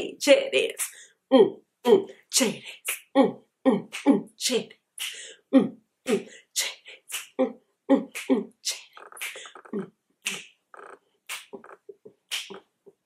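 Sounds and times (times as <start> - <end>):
woman beatboxing: 1.9 - 12.7.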